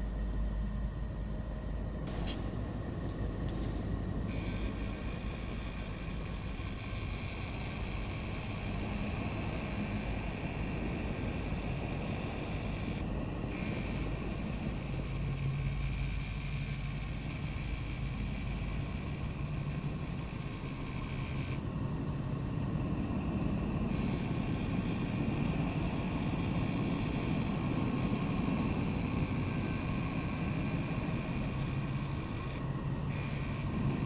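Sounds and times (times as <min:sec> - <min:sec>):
high motor whine: 0:00.0 - 0:34.0
motors whirring hum: 0:00.0 - 0:34.0.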